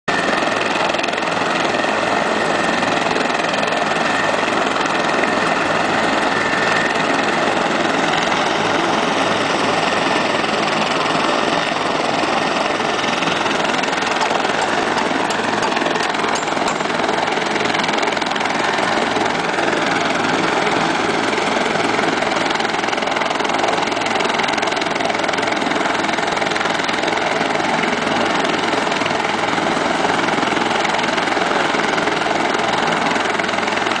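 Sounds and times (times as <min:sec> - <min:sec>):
helicopter rotor and engine: 0:00.1 - 0:34.0
turbine whine: 0:00.1 - 0:34.0.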